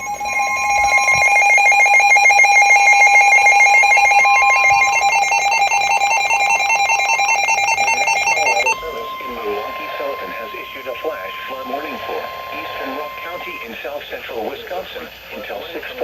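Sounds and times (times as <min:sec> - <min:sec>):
rapidly pulsing alarm beeping: 0:00.0 - 0:16.0
steady radio warning alarm tone: 0:00.0 - 0:16.0.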